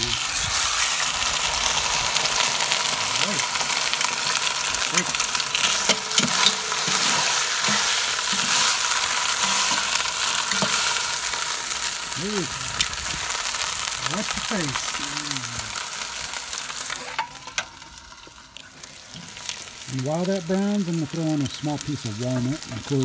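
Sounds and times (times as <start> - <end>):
meat sizzling in pot: 0.0 - 23.0.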